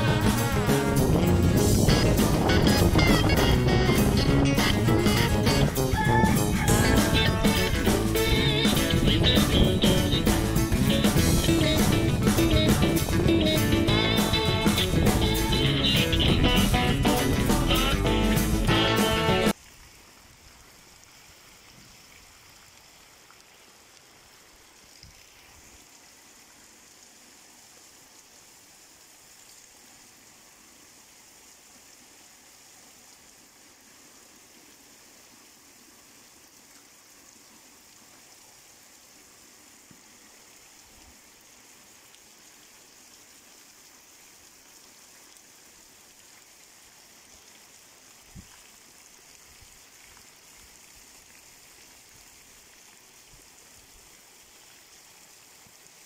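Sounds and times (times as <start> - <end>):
rainwater running: 0.0 - 56.0
steady rain hiss: 0.0 - 56.0.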